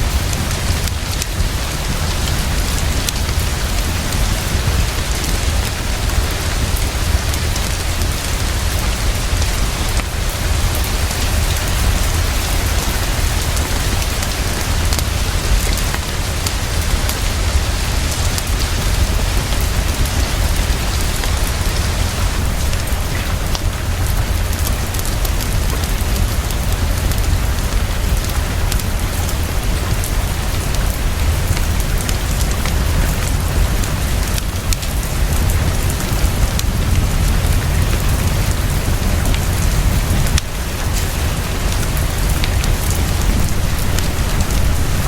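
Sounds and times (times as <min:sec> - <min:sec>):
heavy rainfall: 0:00.0 - 0:45.0.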